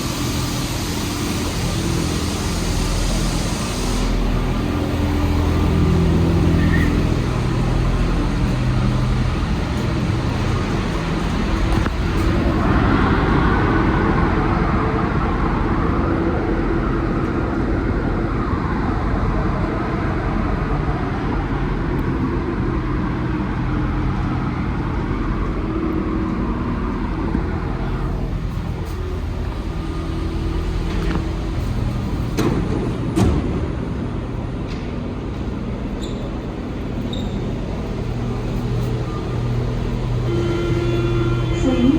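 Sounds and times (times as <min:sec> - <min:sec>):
metro train rumble: 0:00.0 - 0:41.9.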